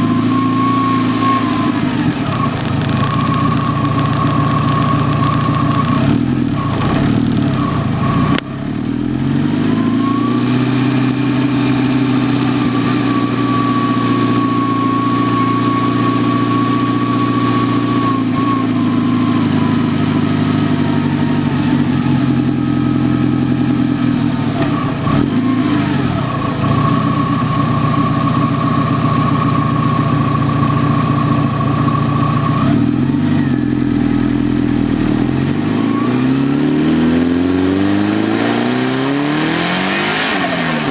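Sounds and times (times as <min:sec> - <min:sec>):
car engine running under load: 0:00.0 - 0:40.9.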